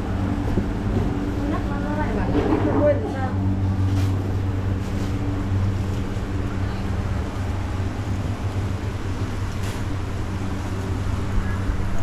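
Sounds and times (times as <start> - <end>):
low mechanical hum: 0.0 - 12.0
noisy background: 0.0 - 12.0.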